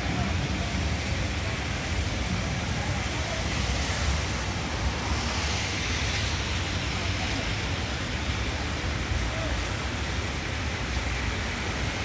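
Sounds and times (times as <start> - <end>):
train rumbling and hissing: 0.0 - 12.0.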